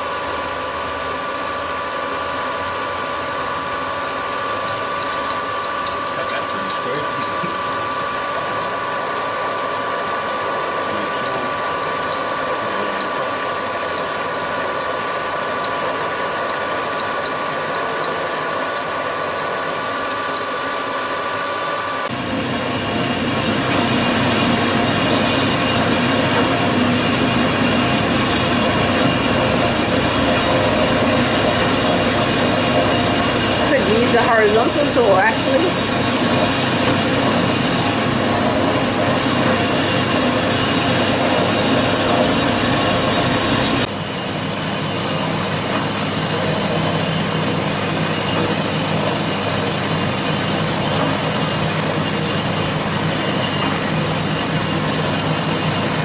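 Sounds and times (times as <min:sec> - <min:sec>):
milling machine whining: 0:00.0 - 0:56.0.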